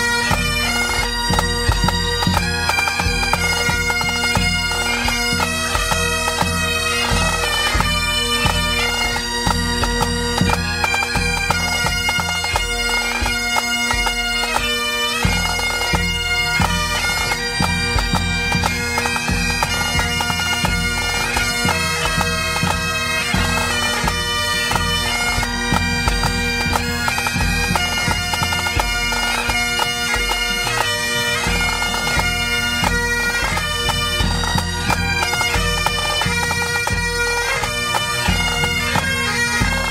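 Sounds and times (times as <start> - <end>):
bagpipes melody with drones: 0.0 - 39.9.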